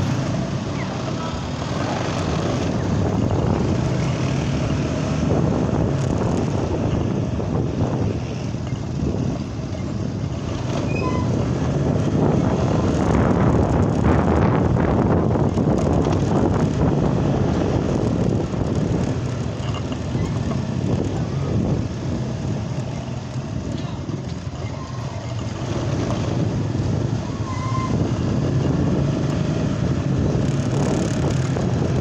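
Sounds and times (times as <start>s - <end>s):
road and wind noise: 0.0s - 32.0s.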